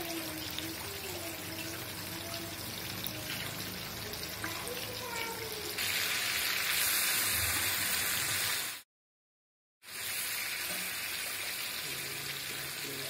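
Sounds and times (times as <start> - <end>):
prawns sizzling in oil: 0.0 - 8.9, 9.8 - 13.0.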